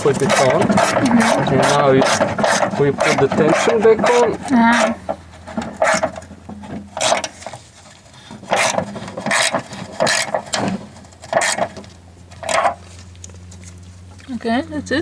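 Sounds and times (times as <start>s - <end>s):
hand tool rasping strokes: 0.0s - 13.1s.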